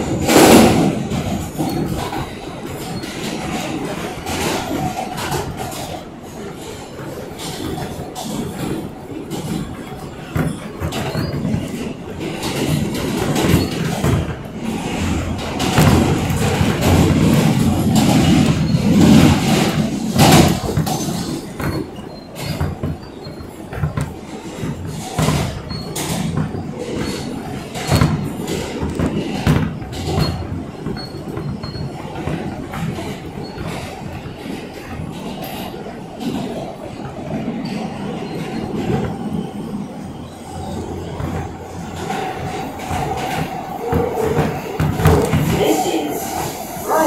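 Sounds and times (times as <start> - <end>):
subway train wheels rumbling: 0.0 - 47.0
wheels clacking over rail joints: 0.0 - 47.0.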